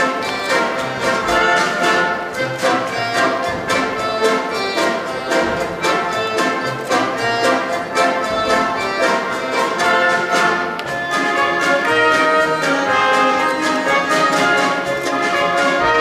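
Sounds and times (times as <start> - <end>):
orchestral dance music: 0.0 - 16.0.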